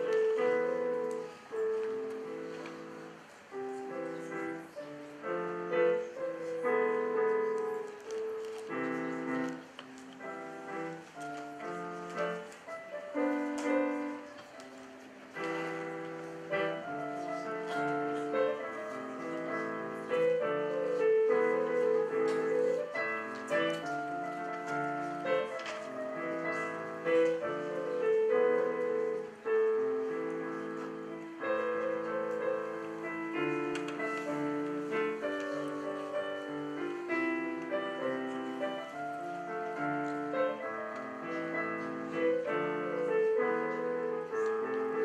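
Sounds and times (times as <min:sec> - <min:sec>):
solo piano piece: 0:00.0 - 0:45.0.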